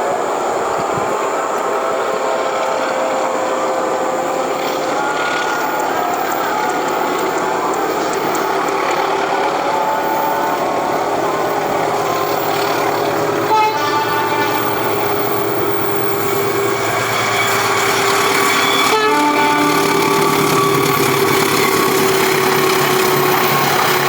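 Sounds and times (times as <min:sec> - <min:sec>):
train horn toots: 0:00.0 - 0:24.0
train running past: 0:00.0 - 0:24.0.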